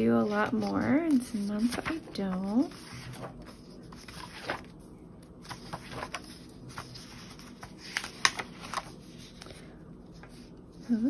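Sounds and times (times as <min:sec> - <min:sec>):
paper pages flipping: 0:00.0 - 0:10.6.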